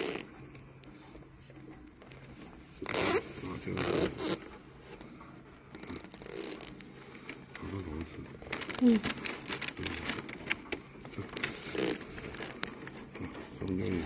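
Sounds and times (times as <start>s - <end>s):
hands rustling wiring: 0.0s - 14.0s.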